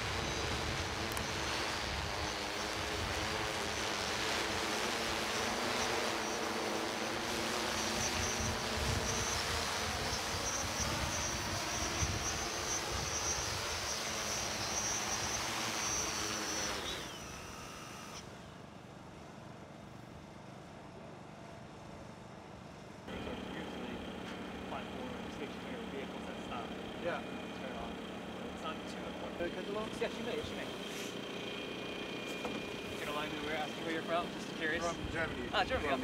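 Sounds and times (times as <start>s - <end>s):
drone propellers whirring: 0.0s - 18.7s, 23.1s - 36.0s.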